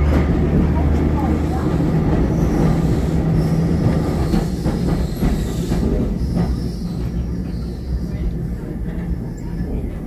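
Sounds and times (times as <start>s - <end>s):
tram motors and wheels rumbling: 0.0s - 10.0s.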